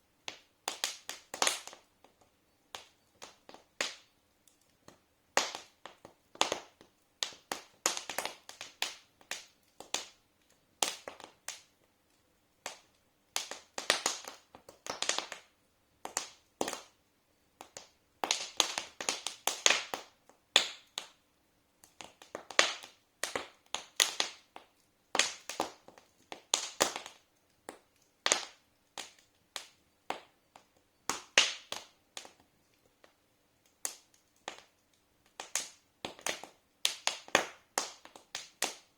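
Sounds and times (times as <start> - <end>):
wood fire crackling: 0.2 - 38.9.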